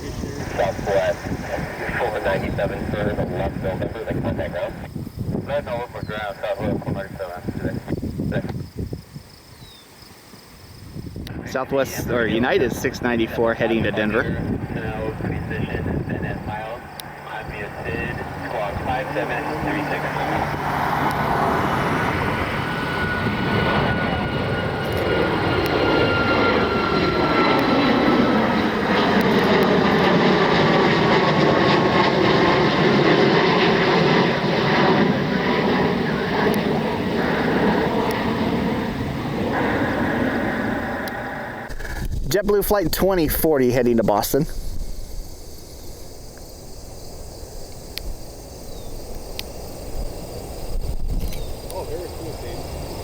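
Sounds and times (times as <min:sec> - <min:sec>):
high turbine whine: 0:00.0 - 0:53.0
insects buzzing: 0:00.0 - 0:53.0
jet engines rumbling: 0:00.0 - 0:53.0.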